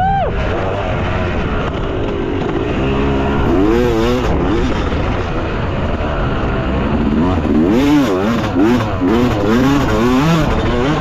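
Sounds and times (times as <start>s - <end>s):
motocross bike engine revving: 0.3s - 11.0s.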